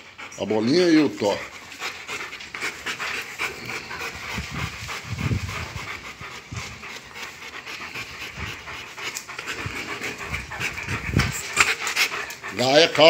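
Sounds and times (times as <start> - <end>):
dogs panting rapidly: 0.0 - 13.0.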